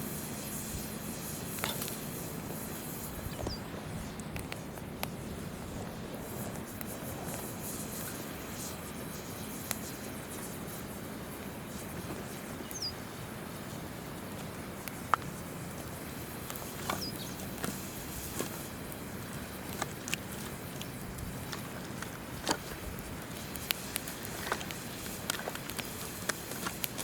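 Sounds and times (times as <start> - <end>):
campfire wood crackling: 0.0 - 27.0.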